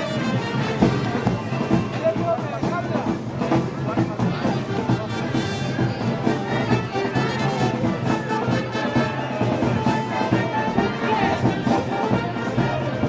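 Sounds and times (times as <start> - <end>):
brass band playing: 0.0 - 13.0
drums beating: 0.0 - 13.0.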